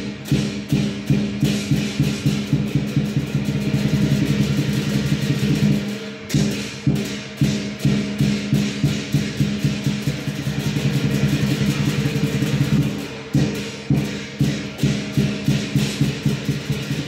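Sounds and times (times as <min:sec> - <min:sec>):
drum beating: 0:00.0 - 0:17.0
hand cymbals crashing: 0:00.0 - 0:17.0.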